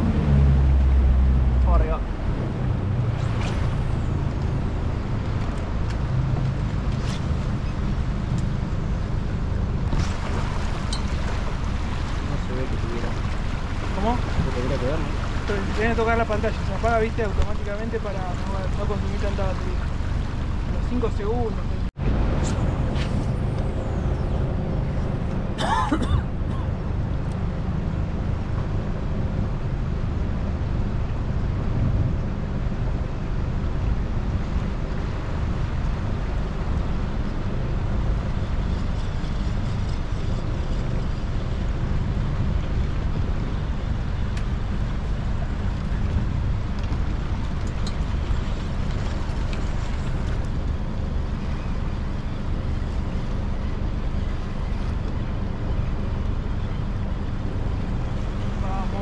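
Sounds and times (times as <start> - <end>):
boat motor rumbling: 0.0 - 59.0.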